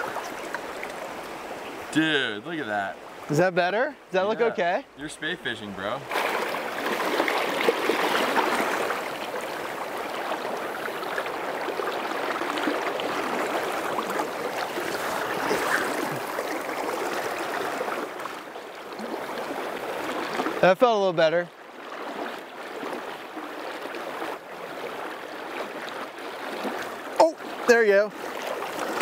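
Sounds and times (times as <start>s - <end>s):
fast-flowing river rushing: 0.0s - 20.7s, 21.6s - 29.0s.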